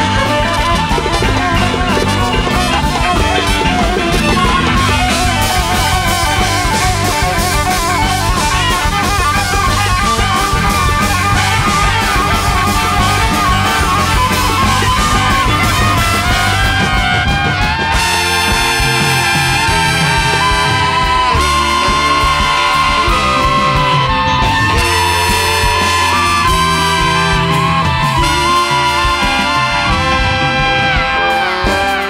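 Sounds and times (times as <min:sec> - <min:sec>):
driving drum kit: 0:00.0 - 0:32.0
guitar: 0:00.0 - 0:32.0
horns: 0:00.0 - 0:32.0
live band jam: 0:00.0 - 0:32.0.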